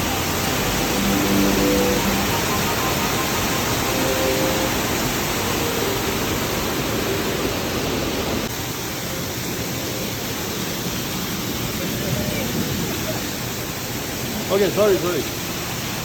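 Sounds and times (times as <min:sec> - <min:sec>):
rushing stream water: 0:00.0 - 0:16.0.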